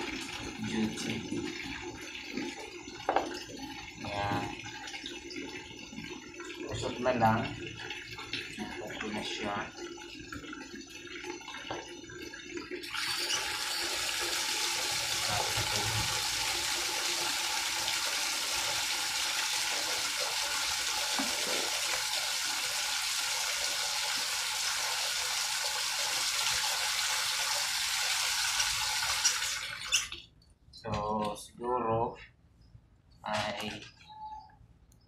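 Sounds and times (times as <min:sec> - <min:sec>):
tap water running and splashing: 0:00.0 - 0:30.3.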